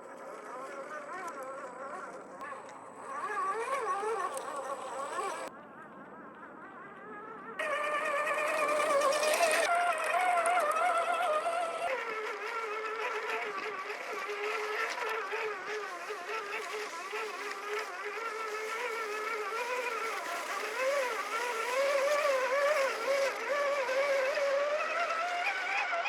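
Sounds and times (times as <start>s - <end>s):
toy truck electric motor whining: 0.0s - 5.5s, 6.8s - 26.0s.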